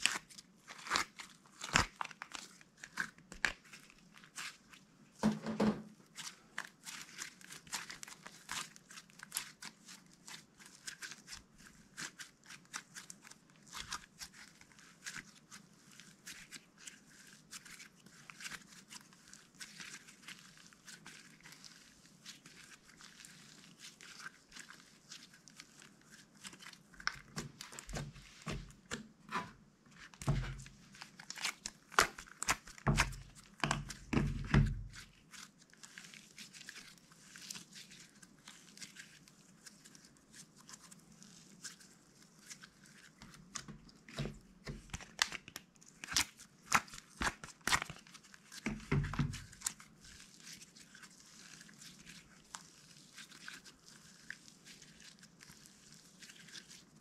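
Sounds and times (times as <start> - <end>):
slime squelching: 0.0 - 5.0, 5.6 - 57.0.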